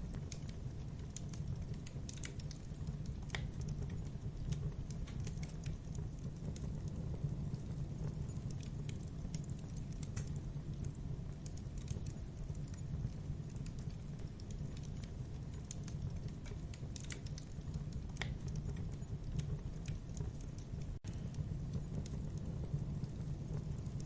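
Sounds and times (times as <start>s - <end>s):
campfire wood crackling: 0.0s - 24.0s
low rumble of flames: 0.0s - 24.0s.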